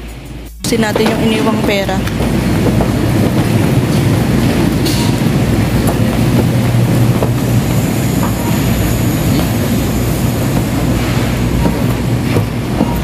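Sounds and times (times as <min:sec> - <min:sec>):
trolley wheels rolling on tiles: 0:00.7 - 0:13.0.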